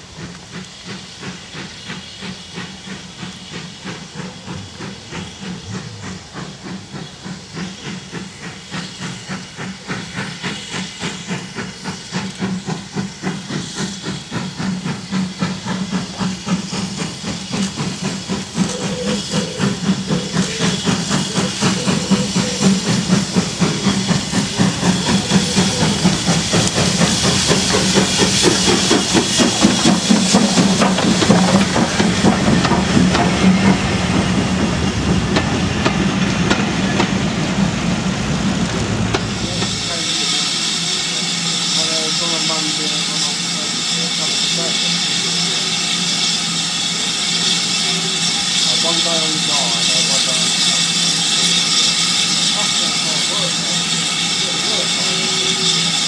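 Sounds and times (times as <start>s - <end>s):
steam hiss: 0.0s - 56.0s
steam locomotive exhaust beats: 0.0s - 56.0s.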